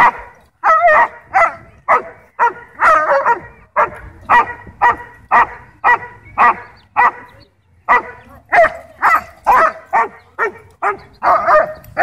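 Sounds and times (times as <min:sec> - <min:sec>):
dog barking: 0:00.0 - 0:07.3, 0:07.9 - 0:11.8.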